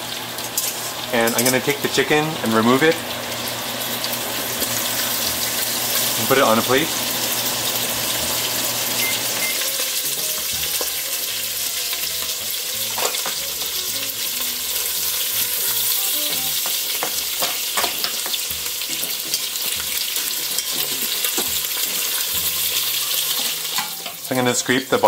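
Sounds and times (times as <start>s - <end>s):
meat sizzling in hot oil: 0.0s - 25.0s.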